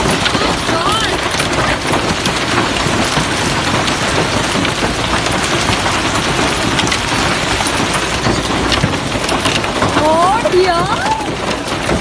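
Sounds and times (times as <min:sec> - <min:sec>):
hail pelting road and cars: 0:00.0 - 0:12.0.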